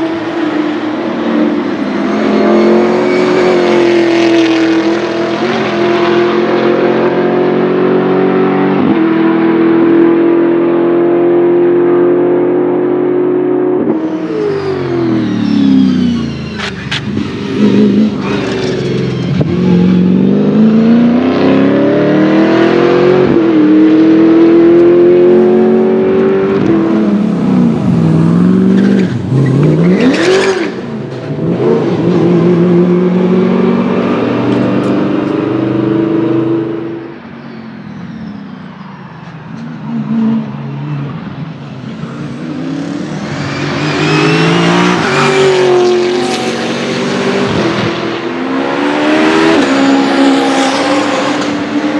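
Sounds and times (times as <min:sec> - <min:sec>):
race car engine at high revs: 0:00.0 - 0:37.2, 0:39.6 - 0:51.9.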